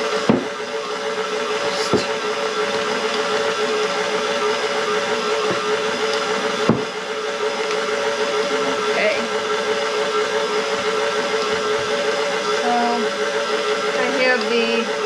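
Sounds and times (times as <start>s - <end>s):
electric mixer motor running: 0.0s - 15.0s.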